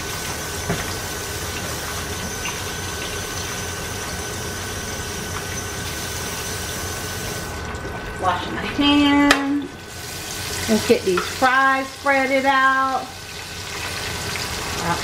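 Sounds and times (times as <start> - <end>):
fries sizzling in oil: 0.0 - 15.0.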